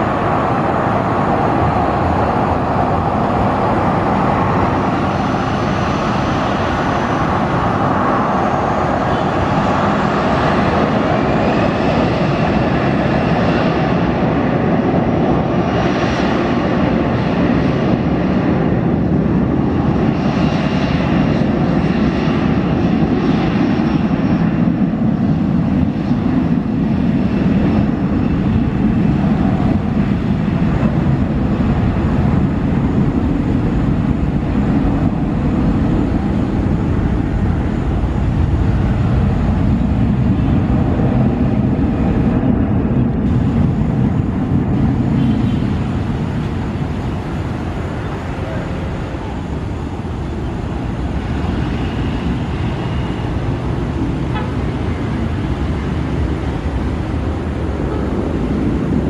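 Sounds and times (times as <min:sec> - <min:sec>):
jet engines rumbling at takeoff: 0:00.0 - 0:59.0.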